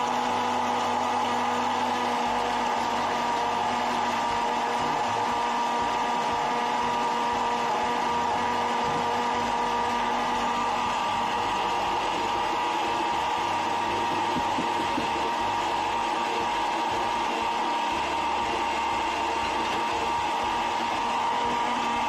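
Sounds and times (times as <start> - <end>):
blender motor running: 0.0 - 22.0.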